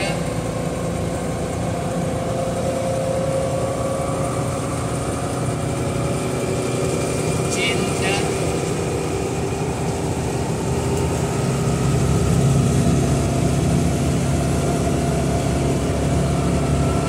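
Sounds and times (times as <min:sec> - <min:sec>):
car engine under heavy throttle: 0:00.0 - 0:17.0
road noise: 0:00.0 - 0:17.0.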